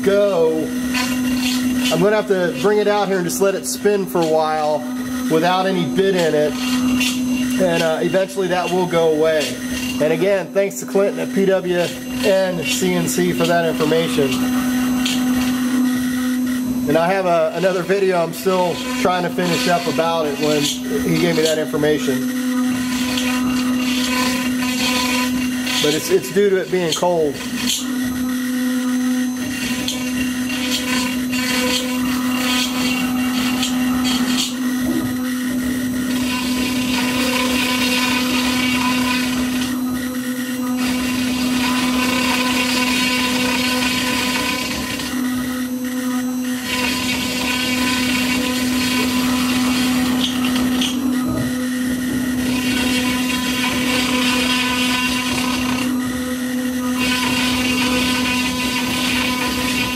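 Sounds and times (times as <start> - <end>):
cnc router spindle humming: 0.0 - 59.9
router bit cutting wood hiss: 0.0 - 59.9.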